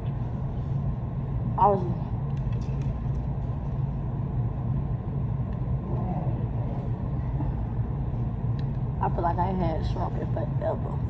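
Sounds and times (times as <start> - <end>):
restaurant background hum: 0.0 - 11.0.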